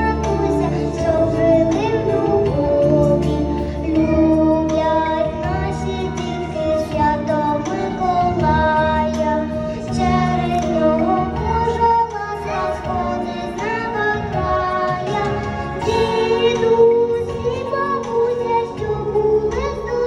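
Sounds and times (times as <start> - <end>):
girl singing: 0.0 - 20.0
musical accompaniment: 0.0 - 20.0.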